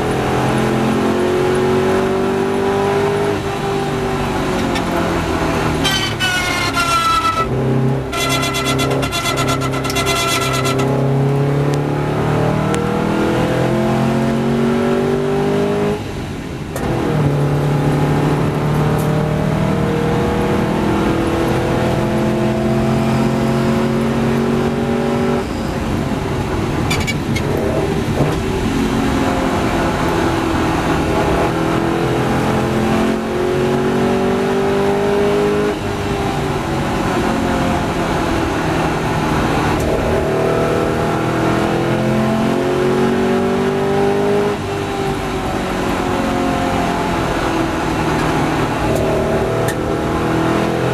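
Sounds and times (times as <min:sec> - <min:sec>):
racing car engine accelerating: 0:00.0 - 0:50.9.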